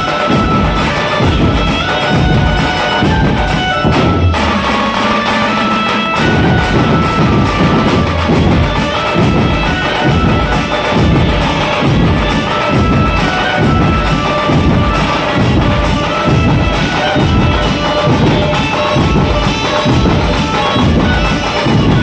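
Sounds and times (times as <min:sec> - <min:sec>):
amplified melody line: 0:00.0 - 0:22.0
large drums beaten together: 0:00.0 - 0:22.0.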